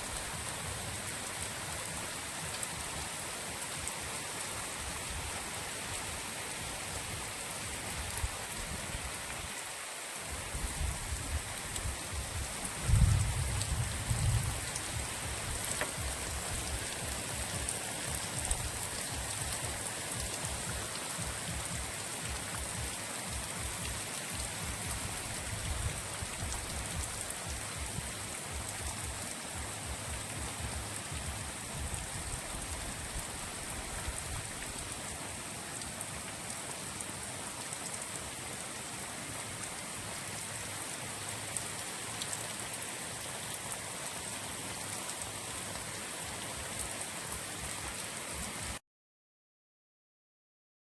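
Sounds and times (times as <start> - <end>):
rain falling: 0.0 - 48.8.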